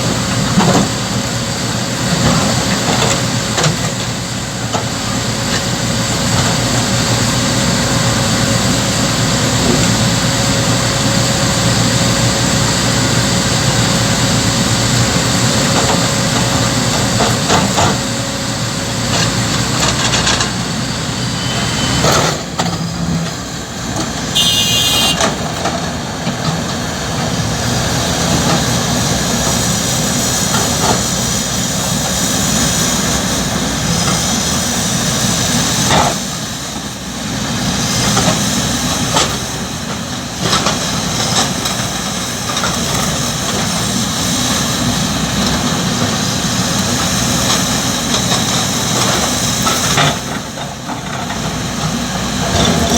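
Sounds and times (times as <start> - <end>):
excavator diesel engines running: 0.0 - 52.9.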